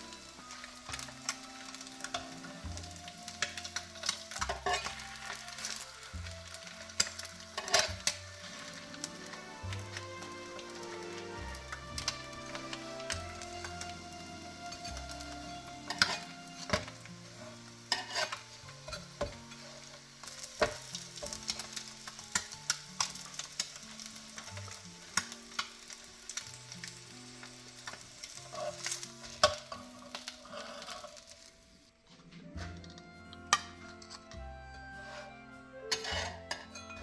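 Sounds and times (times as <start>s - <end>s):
food sizzling on a griddle: 0.0s - 31.9s, 34.4s - 37.0s.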